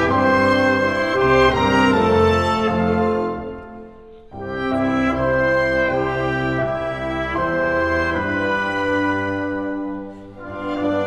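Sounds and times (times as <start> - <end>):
orchestra playing held chords: 0.0 - 11.0.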